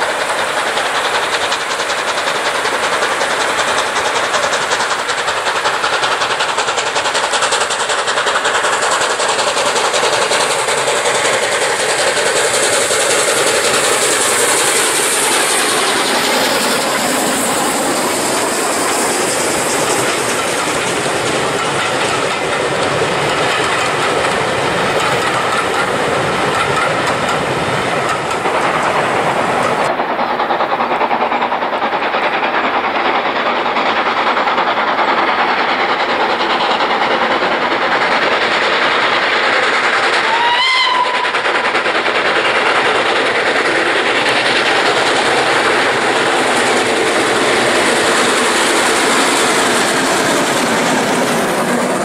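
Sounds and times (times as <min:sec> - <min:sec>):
dull steady train noise: 0:00.0 - 0:52.0
train wheels clickety-clack: 0:00.0 - 0:52.0.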